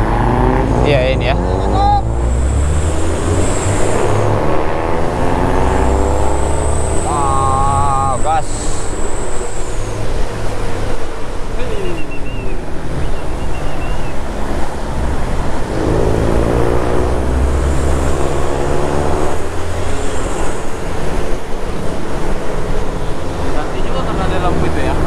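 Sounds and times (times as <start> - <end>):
pitched drone: 0.0 - 22.0
bus engine rumble: 0.0 - 25.0
road noise: 0.0 - 25.0.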